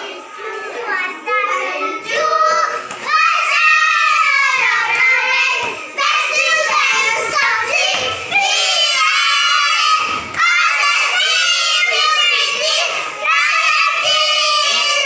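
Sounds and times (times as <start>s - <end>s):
children singing in chorus: 0.0s - 15.0s.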